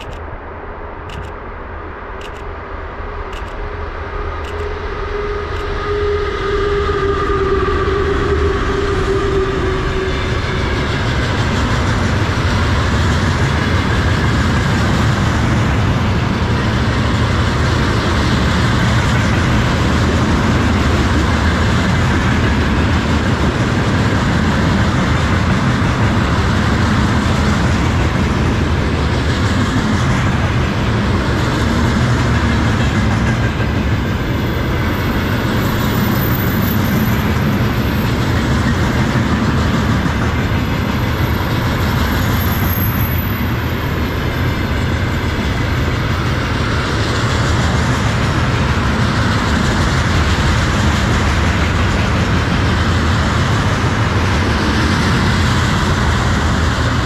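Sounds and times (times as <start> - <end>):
electric locomotive humming whine: 0.0 - 57.0
freight train wheels clattering: 8.3 - 57.0.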